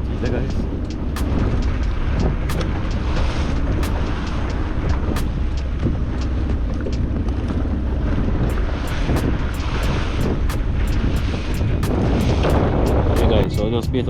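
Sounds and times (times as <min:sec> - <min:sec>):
boat motor running: 0:00.0 - 0:14.0
wind buffeting microphone: 0:00.0 - 0:14.0.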